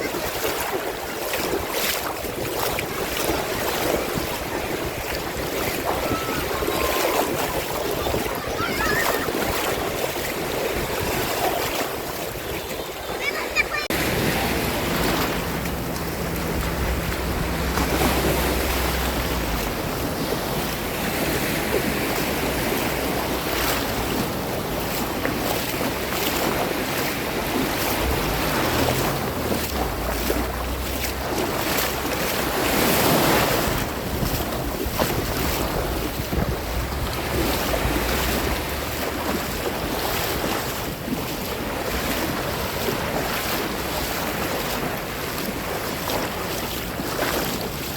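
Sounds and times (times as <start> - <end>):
sea waves breaking: 0.0 - 47.9
wind buffeting microphone: 0.0 - 47.9.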